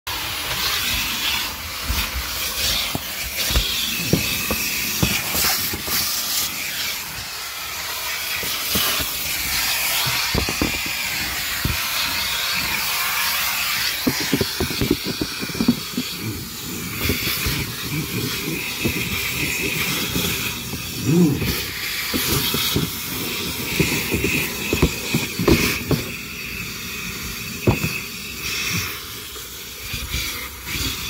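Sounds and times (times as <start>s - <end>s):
vacuum cleaner suction hiss: 0.1s - 31.0s.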